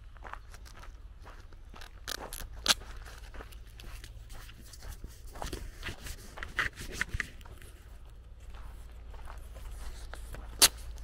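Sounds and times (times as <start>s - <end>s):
footsteps on gravel: 0.0s - 11.0s.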